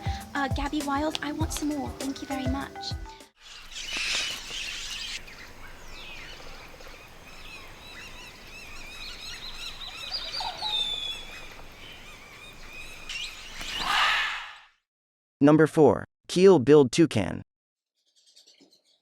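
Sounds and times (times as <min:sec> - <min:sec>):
birds chirping and calling: 0:00.0 - 0:14.6, 0:18.0 - 0:19.0.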